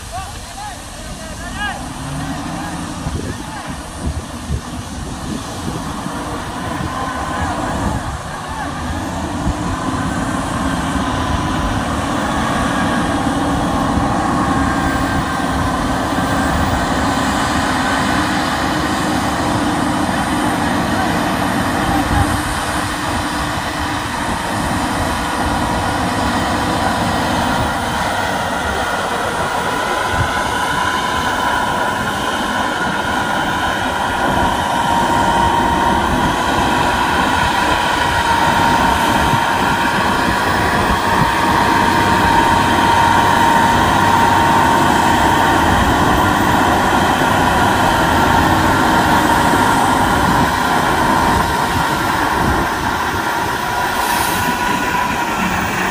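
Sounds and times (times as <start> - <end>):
diesel truck engines droning: 0.0 - 55.9
high whine: 0.0 - 55.9.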